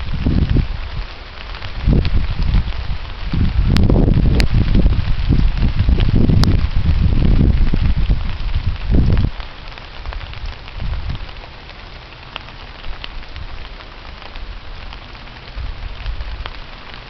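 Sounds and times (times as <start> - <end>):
rain falling on leaves: 0.0 - 17.0
wind rumble on microphone: 0.0 - 17.0.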